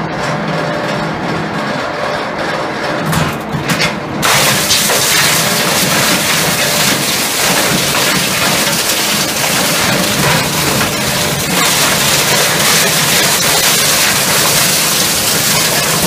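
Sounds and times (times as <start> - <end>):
hammer mill humming: 0.0 - 16.0
electronics crashing and grinding: 3.0 - 16.0.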